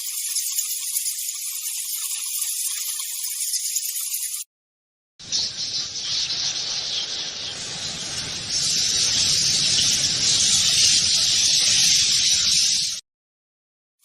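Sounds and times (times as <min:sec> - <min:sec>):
bats high-pitched chatter: 0:00.0 - 0:04.5, 0:05.2 - 0:13.0.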